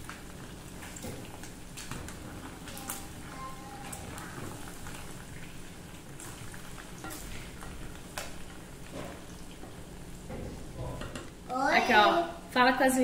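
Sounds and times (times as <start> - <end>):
oil popping: 0.0 - 11.4
chicken sizzling in hot oil: 0.0 - 12.4.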